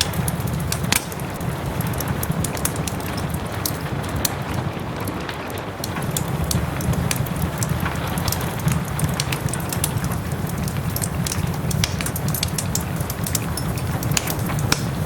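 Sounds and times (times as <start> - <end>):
soft rain hiss: 0.0 - 15.0
wood fire crackling and popping: 0.0 - 15.0.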